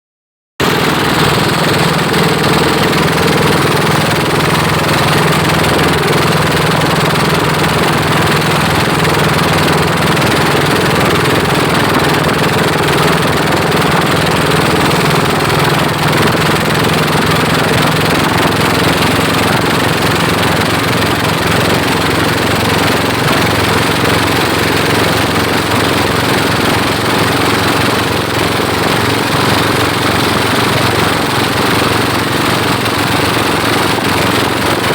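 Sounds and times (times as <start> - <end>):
motorboat engines droning: 0.6 - 34.9.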